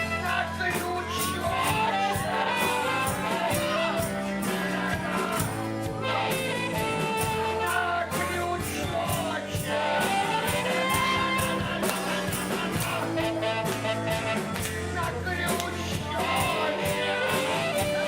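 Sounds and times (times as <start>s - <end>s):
guitar: 0.0s - 18.0s
person singing: 0.0s - 18.0s
steady drum beat: 0.0s - 18.0s.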